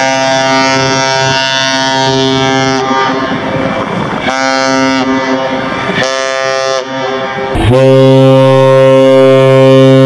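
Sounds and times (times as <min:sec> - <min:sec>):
ship's horn deep blast: 0:00.0 - 0:10.0.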